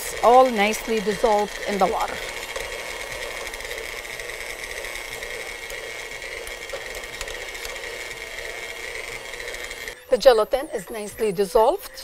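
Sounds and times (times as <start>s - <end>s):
stand mixer motor hum: 0.0s - 10.5s.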